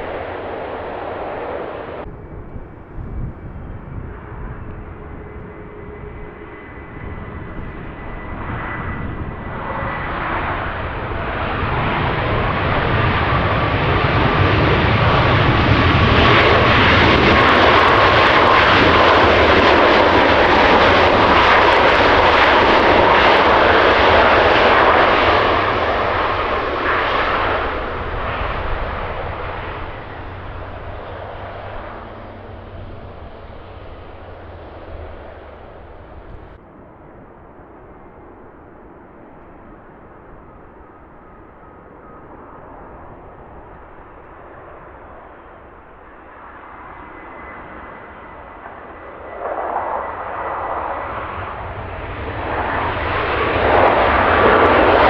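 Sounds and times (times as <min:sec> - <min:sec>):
jet engines passing by: 0:00.0 - 0:55.0.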